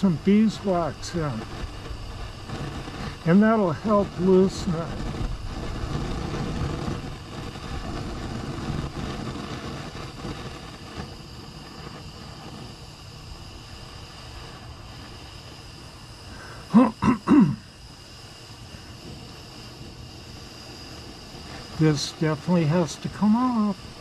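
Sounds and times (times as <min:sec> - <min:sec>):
wind rumbling on microphone: 0:00.0 - 0:16.4, 0:17.8 - 0:24.0
propane torch hissing: 0:00.0 - 0:24.0.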